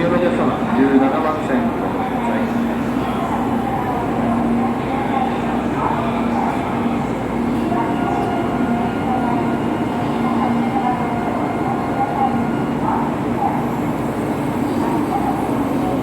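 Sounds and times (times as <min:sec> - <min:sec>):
crowd chatter: 0:00.0 - 0:16.0
station and train hum: 0:00.0 - 0:16.0.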